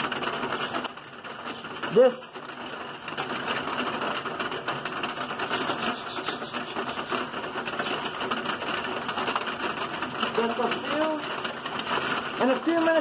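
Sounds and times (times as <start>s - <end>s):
heavy rain pattering on roof: 0.0s - 13.0s.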